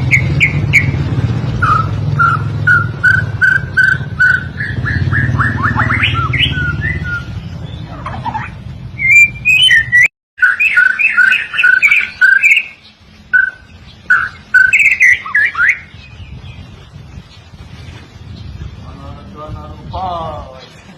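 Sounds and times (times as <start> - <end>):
bird singing whistled notes: 0.0 - 17.1.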